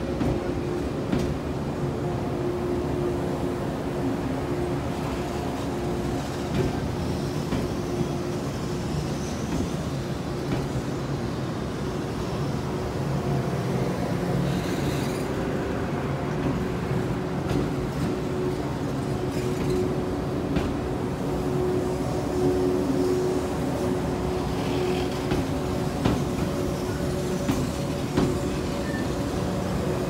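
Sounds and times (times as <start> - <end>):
train wheels rolling: 0.0 - 30.0.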